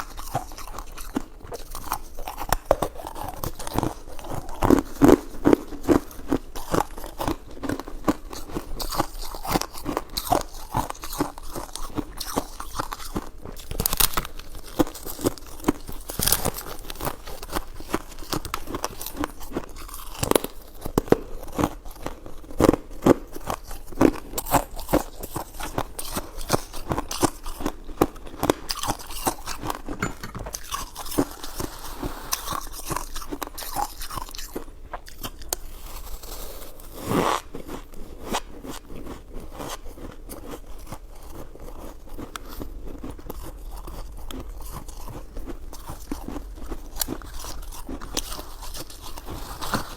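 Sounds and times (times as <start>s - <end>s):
crunchy bites and chewing: 0.0s - 49.9s.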